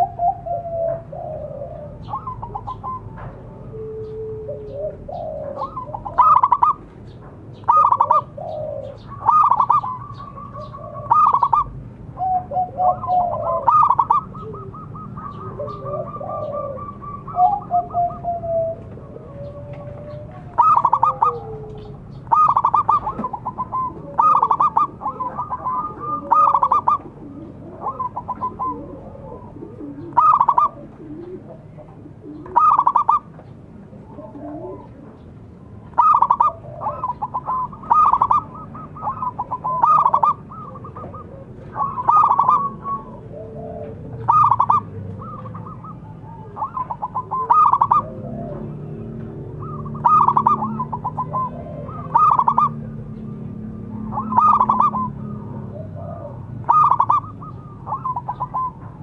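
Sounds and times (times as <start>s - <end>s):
softer gliding bird calls: 0.0s - 6.9s, 7.5s - 31.5s, 32.2s - 33.3s, 35.9s - 59.0s
dove cooing in staccato bursts: 0.0s - 59.0s.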